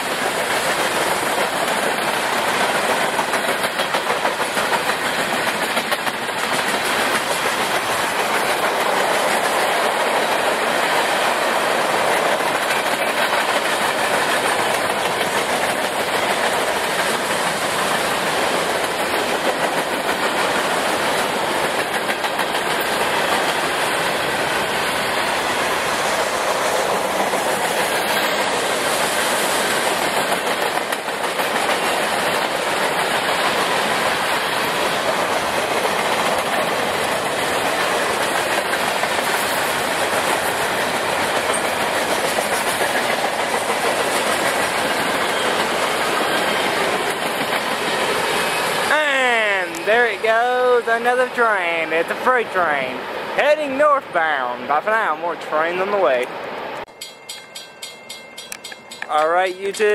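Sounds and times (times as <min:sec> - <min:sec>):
train wheels rushing on rail: 0:00.0 - 0:59.9.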